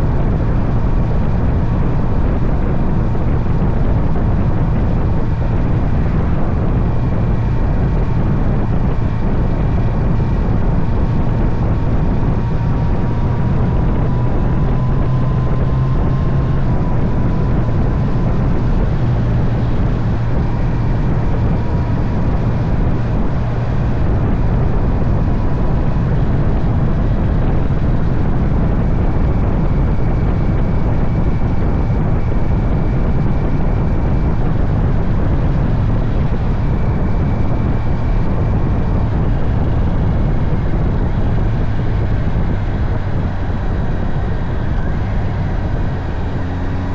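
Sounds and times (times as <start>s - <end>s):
motorcycle engine cruising: 0.0s - 46.9s
wind and road noise: 0.0s - 46.9s.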